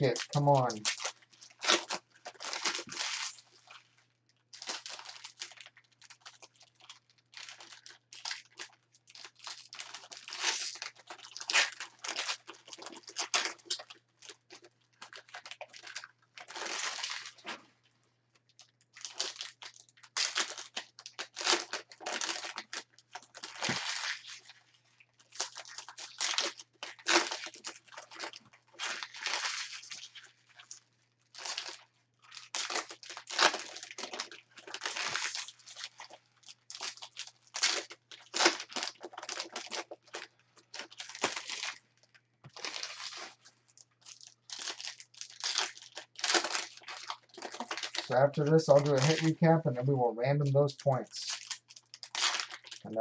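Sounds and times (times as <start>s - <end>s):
wrappers crinkling and tearing: 0.0s - 49.5s, 50.5s - 53.0s.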